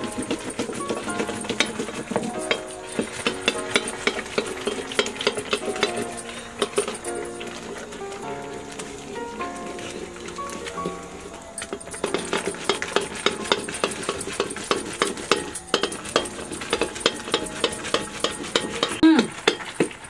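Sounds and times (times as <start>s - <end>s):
ladle scraping metal wok: 0.0s - 8.2s, 11.6s - 20.0s
faint sizzle: 0.0s - 20.0s.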